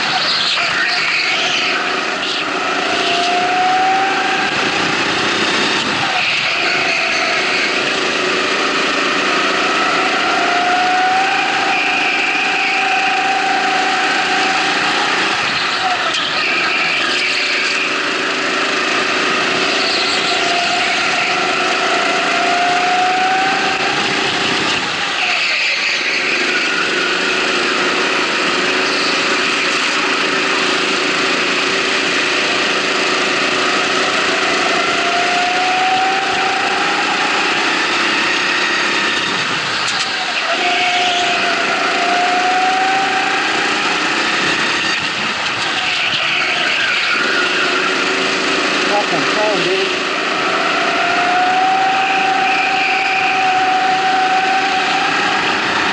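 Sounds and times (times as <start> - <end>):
go-kart engine revving: 0.0 - 55.9
other go-kart engines: 0.0 - 55.9.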